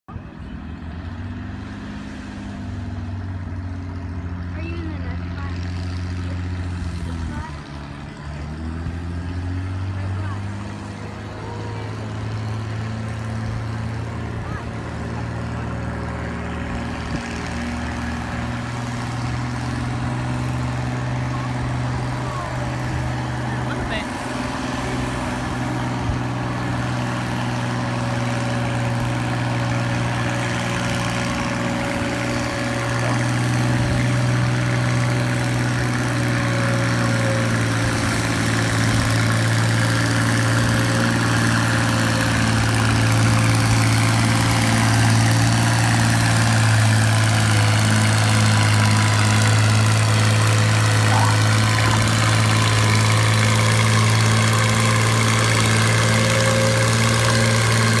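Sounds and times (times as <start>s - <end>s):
tractor engine under load: 0.1s - 58.0s.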